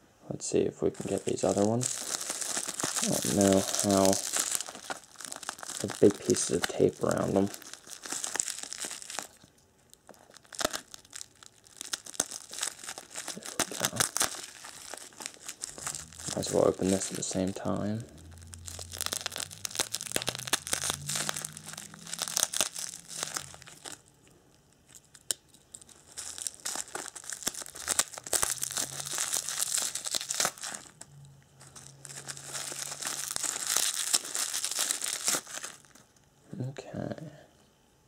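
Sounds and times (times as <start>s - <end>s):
wrapping crinkling: 0.9s - 36.2s
tape tearing: 1.0s - 24.1s, 24.9s - 31.0s, 31.6s - 36.0s.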